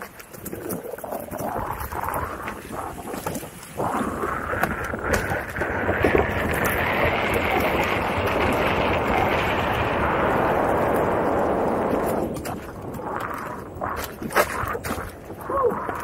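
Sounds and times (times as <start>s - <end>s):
tyres rolling on dirt: 0.0s - 16.0s
wind on microphone: 0.0s - 16.0s.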